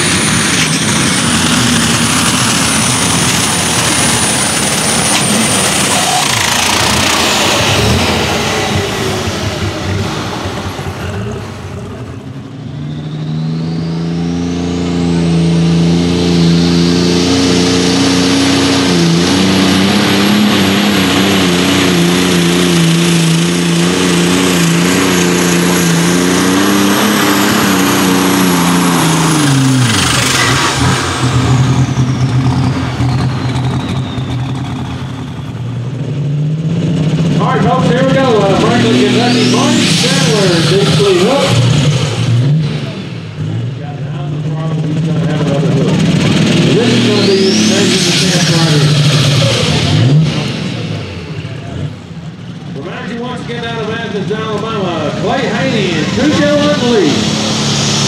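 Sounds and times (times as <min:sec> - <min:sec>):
diesel engine at full throttle: 0:00.0 - 0:58.0
high turbo whine: 0:00.0 - 0:58.0.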